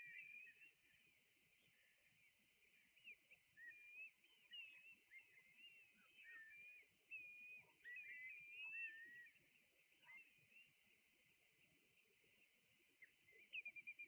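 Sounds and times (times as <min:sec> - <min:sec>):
wader birds whistling and chirping: 0:00.0 - 0:14.0.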